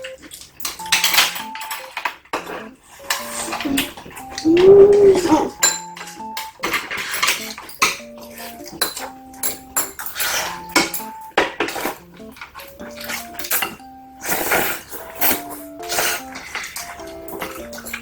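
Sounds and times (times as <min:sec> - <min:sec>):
simple melody background music: 0:00.0 - 0:18.0
utensils clinking on dishes: 0:00.0 - 0:18.0.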